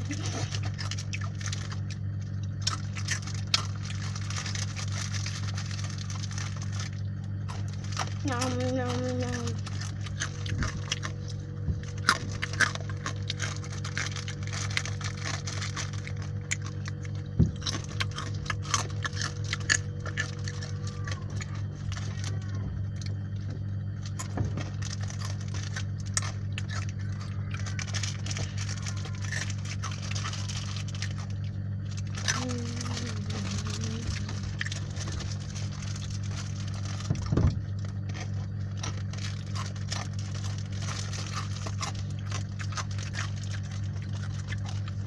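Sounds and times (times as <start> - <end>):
food handling clicks and crinkles: 0.0 - 45.0
low hum: 0.0 - 45.0.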